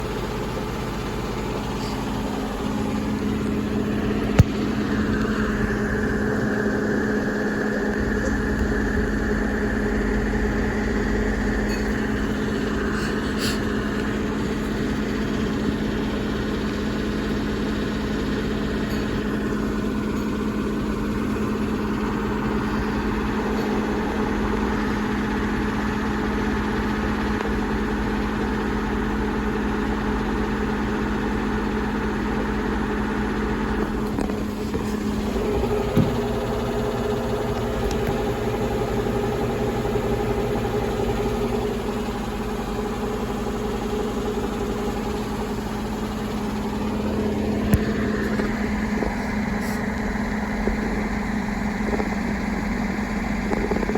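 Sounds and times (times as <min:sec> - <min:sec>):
washing machine rumbling: 0:00.0 - 0:53.9.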